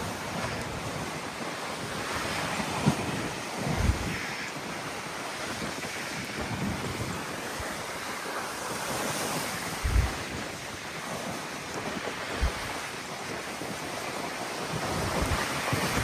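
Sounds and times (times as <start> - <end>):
sea waves breaking: 0.0 - 16.0
wind on microphone: 0.0 - 16.0.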